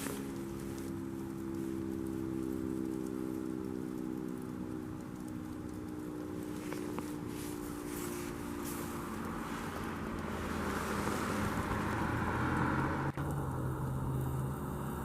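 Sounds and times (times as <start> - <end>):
low engine hum: 0.0 - 15.0
vehicle passing by: 0.0 - 15.0.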